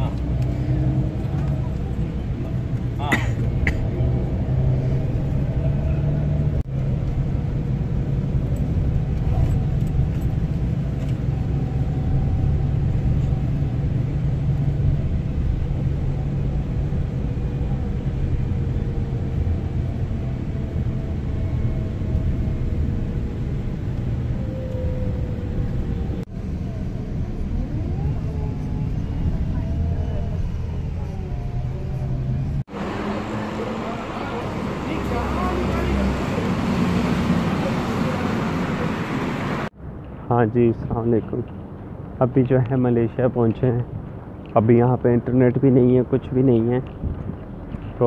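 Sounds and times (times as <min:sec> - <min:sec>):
bus engine and road noise: 0:00.0 - 0:48.0.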